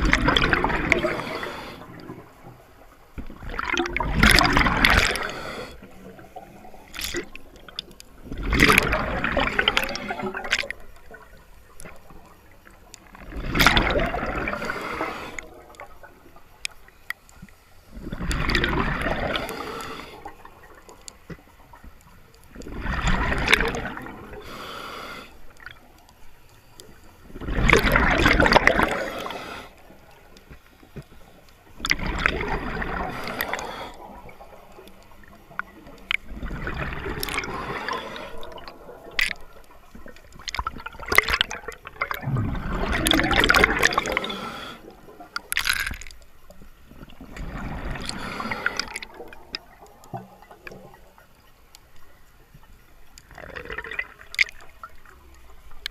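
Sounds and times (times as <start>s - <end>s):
exhaled bubbles gurgling underwater: 0.0s - 55.9s.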